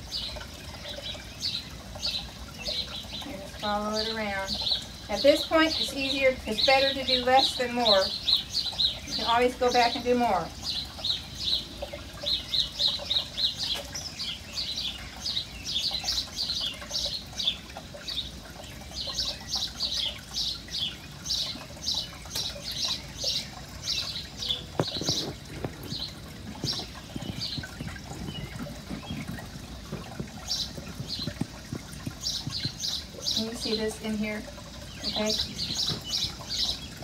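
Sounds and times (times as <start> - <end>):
small bird chirping: 0.1 - 37.0.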